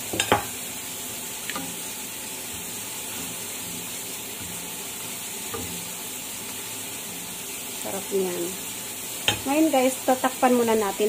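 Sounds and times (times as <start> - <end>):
spatula stirring in a pan: 0.0 - 11.0
steady hiss: 0.0 - 11.0.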